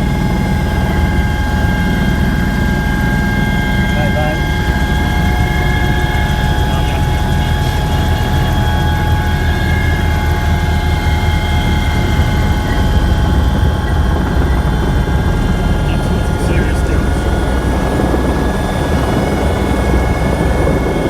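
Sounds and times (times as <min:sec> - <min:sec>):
helicopter rotor and engine drone: 0:00.0 - 0:21.0
high whining tones: 0:00.0 - 0:21.0.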